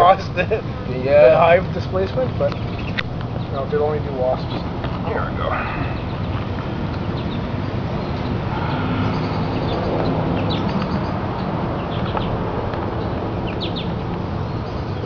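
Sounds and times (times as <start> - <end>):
bee swarm buzzing: 0.0 - 15.0
bird chirps: 2.4 - 15.0.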